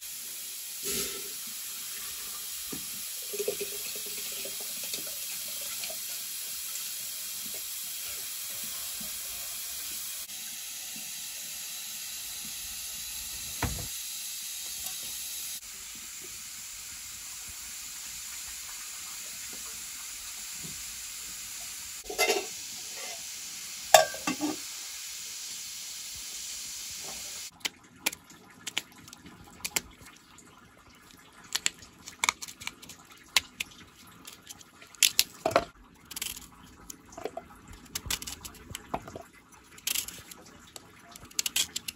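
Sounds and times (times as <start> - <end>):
pots sizzling and steaming: 0.0 - 41.9.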